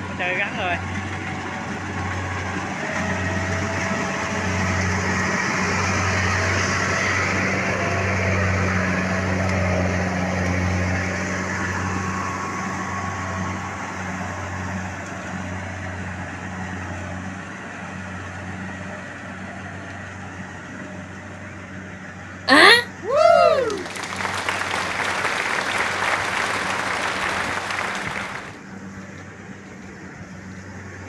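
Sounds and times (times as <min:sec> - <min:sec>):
combine harvester engine humming: 0:00.0 - 0:22.4, 0:23.8 - 0:31.0.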